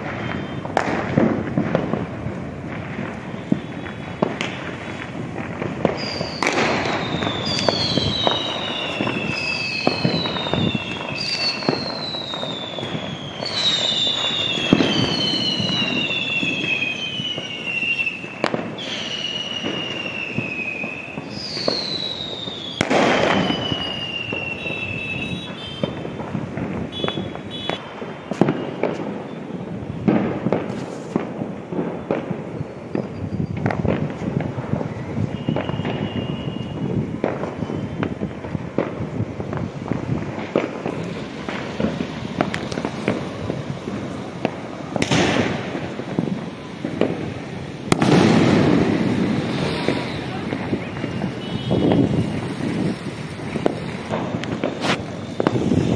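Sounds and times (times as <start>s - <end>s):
loud firework bang: 0.0s - 17.6s, 18.3s - 29.4s, 30.0s - 55.9s
falling firework whistles: 0.0s - 55.9s
fireworks bangs and crackles: 0.0s - 55.9s.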